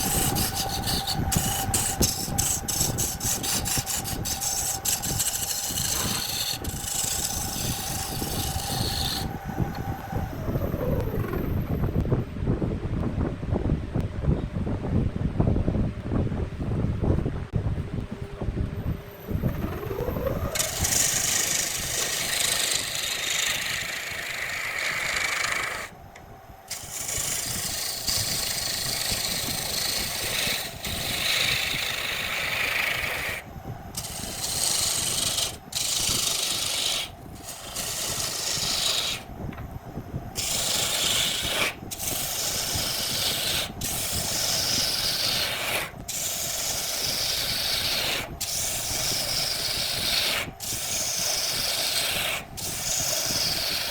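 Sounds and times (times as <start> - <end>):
lathe tool scraping wood: 0.0 - 11.5, 19.4 - 26.0, 26.7 - 39.3, 40.3 - 53.9.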